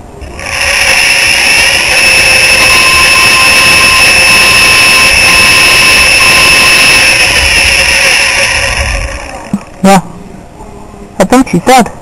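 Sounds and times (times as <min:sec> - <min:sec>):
hard drive high-pitched screech: 0:00.0 - 0:10.2
hard drive rushing hiss: 0:00.0 - 0:10.4.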